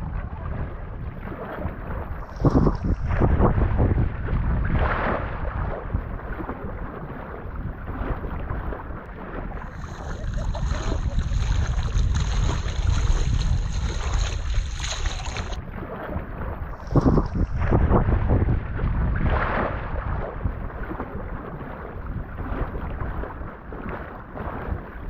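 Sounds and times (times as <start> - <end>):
water sounds: 0.0 - 25.0
wind buffeting microphone: 0.0 - 25.0.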